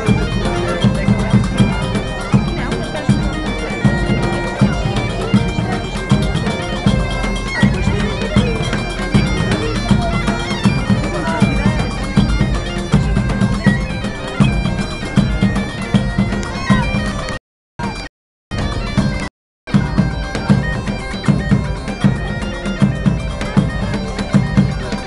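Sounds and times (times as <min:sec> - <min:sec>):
bagpipes playing melody: 0:00.0 - 0:25.0
large drums beating: 0:00.0 - 0:25.0.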